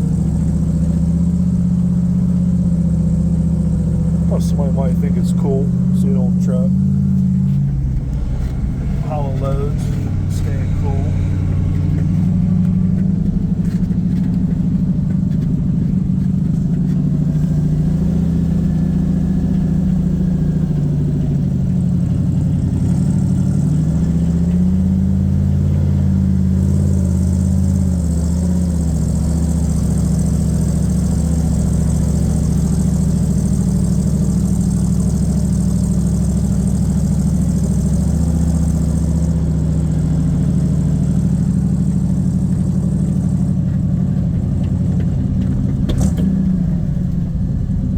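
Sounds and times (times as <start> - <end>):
dump truck engine running: 0.0 - 47.9.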